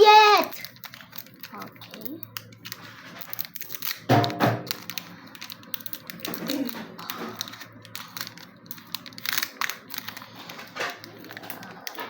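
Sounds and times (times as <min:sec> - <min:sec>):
foil wrapper crinkling: 0:00.0 - 0:12.0
small crackles and clicks: 0:00.0 - 0:12.0.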